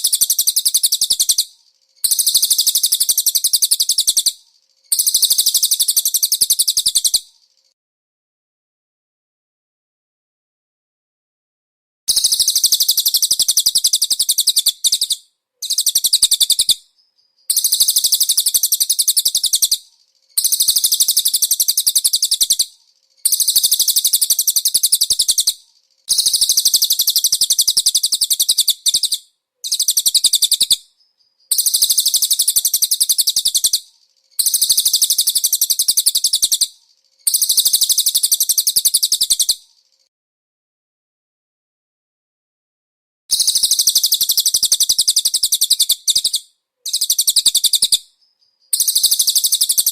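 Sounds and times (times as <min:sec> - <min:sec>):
songbird high-pitched trill: 0:00.0 - 0:07.7, 0:12.1 - 0:40.1, 0:43.3 - 0:49.9.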